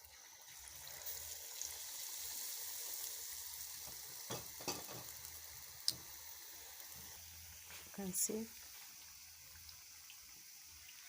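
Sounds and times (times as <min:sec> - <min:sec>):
potato slices frying in oil: 0:00.0 - 0:11.0.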